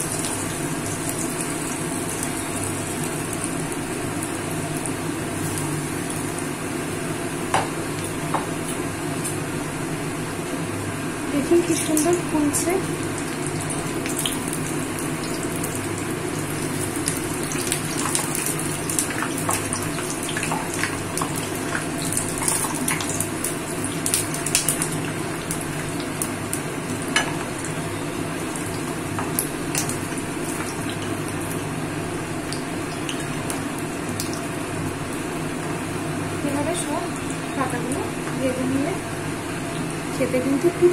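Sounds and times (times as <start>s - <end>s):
fritters sizzling in hot oil: 0.0s - 9.4s, 11.4s - 38.8s.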